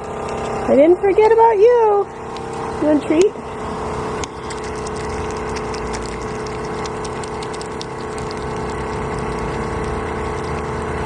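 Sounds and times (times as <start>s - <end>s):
milking machine vacuum pump humming: 0.0s - 11.0s.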